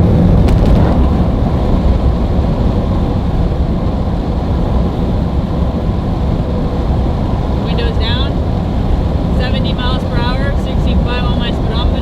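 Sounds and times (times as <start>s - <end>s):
road and wind noise inside cab: 0.0s - 12.0s.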